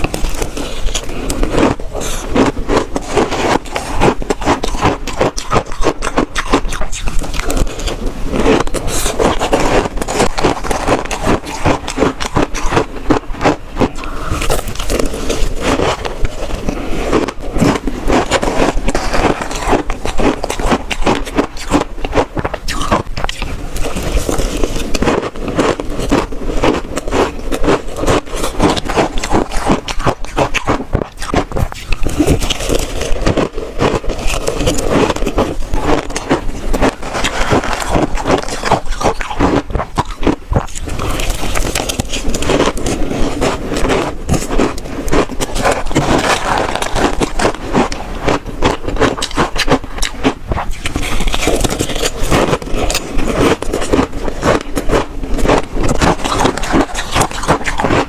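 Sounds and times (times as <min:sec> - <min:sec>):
ice crunching being chewed: 0:00.0 - 0:58.0.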